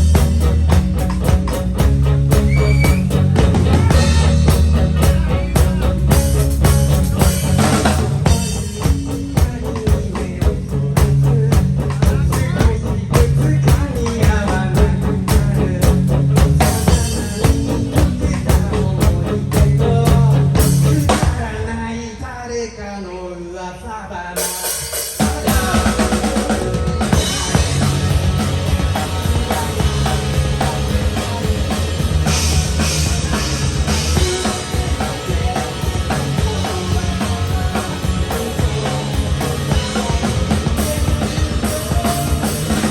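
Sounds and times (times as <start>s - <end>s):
drum kit beat: 0.0s - 21.7s, 24.4s - 42.9s
live rock band playing: 0.0s - 21.9s, 24.4s - 42.9s
bass and guitar: 0.0s - 22.6s, 23.5s - 42.9s
person singing: 2.3s - 42.9s.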